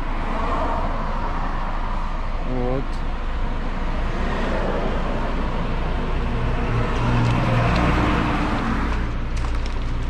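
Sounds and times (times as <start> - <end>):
steady traffic noise: 0.0 - 10.0.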